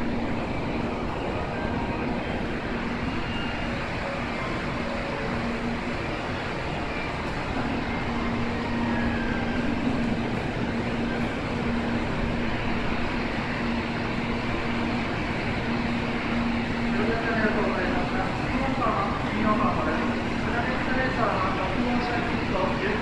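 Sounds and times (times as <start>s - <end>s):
train equipment hum and rush: 0.0s - 23.0s.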